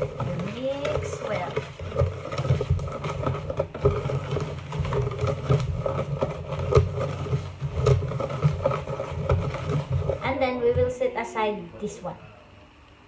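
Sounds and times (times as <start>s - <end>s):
whisk scraping a plastic bowl: 0.0s - 12.0s.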